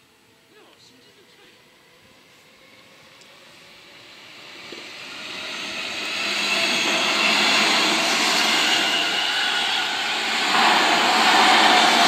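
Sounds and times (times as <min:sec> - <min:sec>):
electric train passing: 0:00.0 - 0:12.0
faint high whine: 0:00.0 - 0:12.0.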